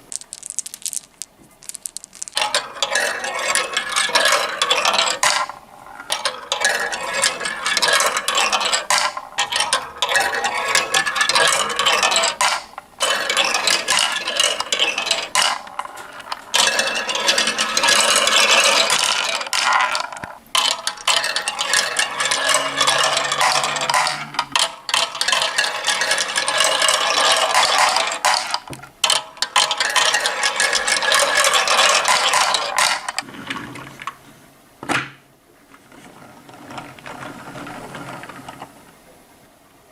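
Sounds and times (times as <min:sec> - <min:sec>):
marbles rattling down a track: 0:00.0 - 0:33.2.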